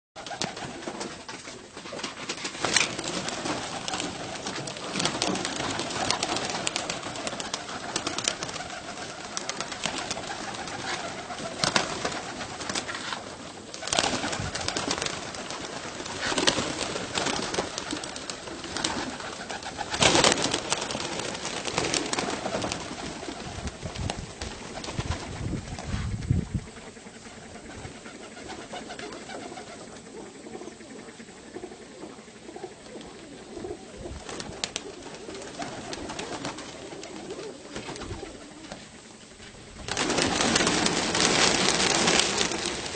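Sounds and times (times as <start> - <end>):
pigeons cooing: 2.4 - 42.9.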